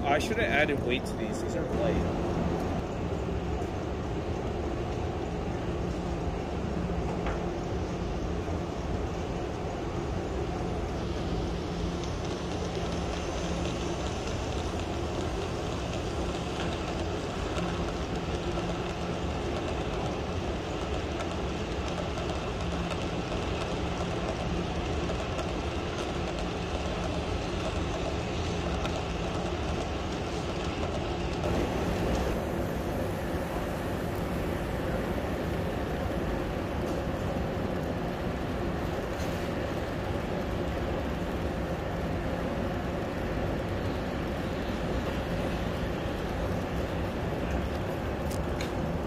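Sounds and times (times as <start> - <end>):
model train wheels rolling on rail: 0.0 - 49.0.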